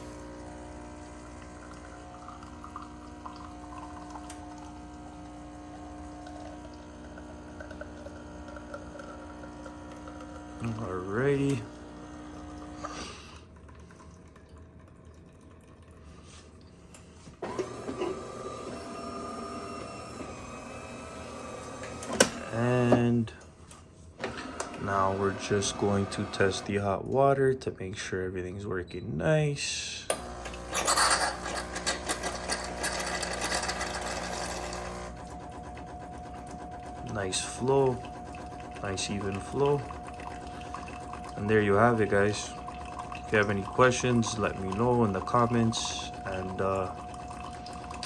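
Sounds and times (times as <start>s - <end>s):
coffee machine faint hum: 0.0s - 14.3s, 16.2s - 27.4s, 30.0s - 48.0s
coffee machine pump humming: 0.0s - 27.0s, 30.1s - 48.0s.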